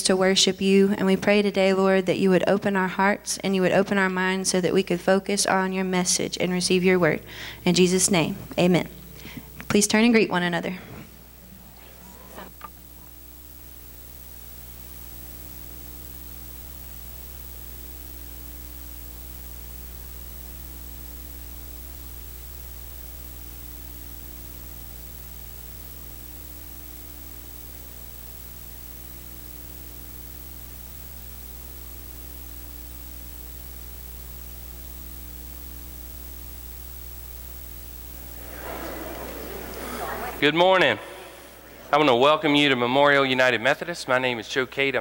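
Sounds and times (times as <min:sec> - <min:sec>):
constant hiss: 0:00.0 - 0:45.0
electrical mains hum: 0:00.0 - 0:45.0.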